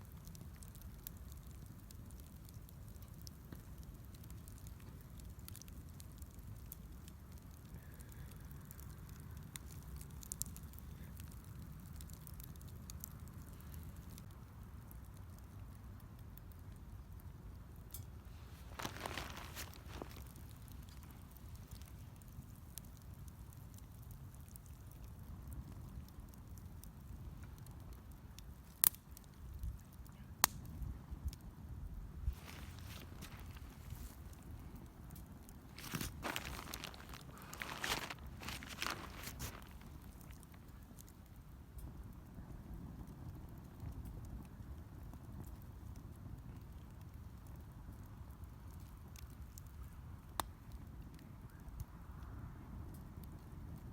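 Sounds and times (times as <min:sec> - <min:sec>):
fire popping: 0:00.0 - 0:53.9
wood fire crackling: 0:00.0 - 0:53.9.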